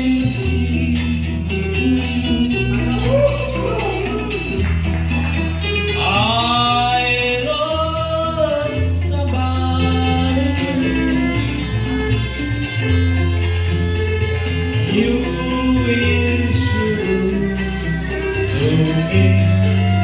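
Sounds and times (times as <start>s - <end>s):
person singing: 0.0s - 4.6s, 5.4s - 12.4s, 14.2s - 20.0s
plucked string instruments: 0.0s - 20.0s
steady bass line: 0.0s - 20.0s.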